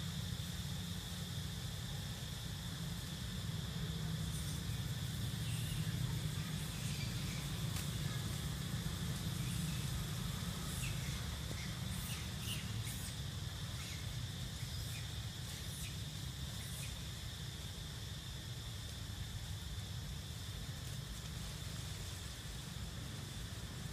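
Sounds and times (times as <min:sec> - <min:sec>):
insects humming: 0:00.0 - 0:23.9.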